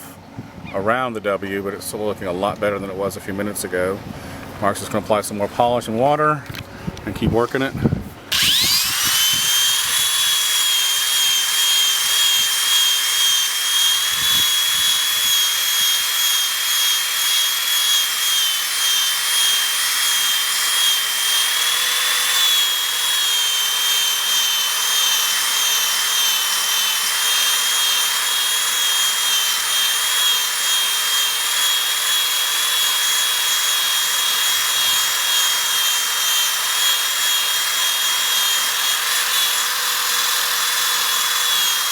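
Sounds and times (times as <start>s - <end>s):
polishing buffer whining: 8.3s - 41.9s.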